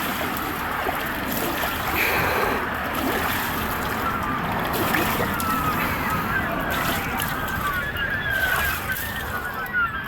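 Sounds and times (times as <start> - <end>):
water boiling and bubbling: 0.0 - 8.6.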